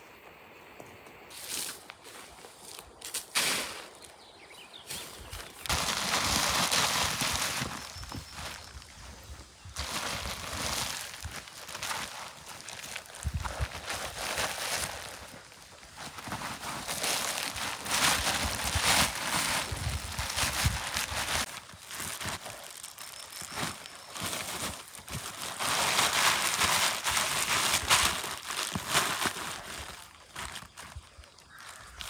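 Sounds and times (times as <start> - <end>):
material rustling and crinkling: 5.0 - 32.0.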